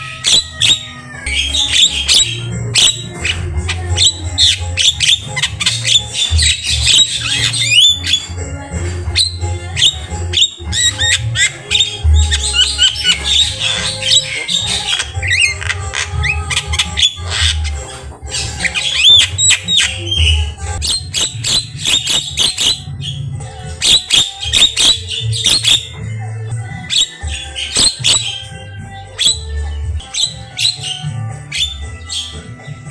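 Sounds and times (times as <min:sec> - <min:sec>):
myna bird singing: 0:00.0 - 0:32.9.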